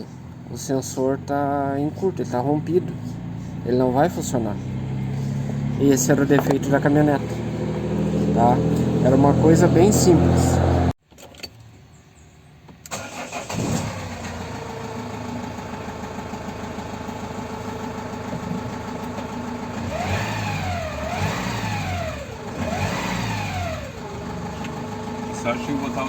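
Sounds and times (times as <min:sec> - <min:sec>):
diesel engine idling: 0:00.0 - 0:10.9, 0:12.9 - 0:26.0
engine revving: 0:00.0 - 0:11.0, 0:12.9 - 0:26.0
diesel engine cranking and starting: 0:00.0 - 0:11.8, 0:12.7 - 0:26.0.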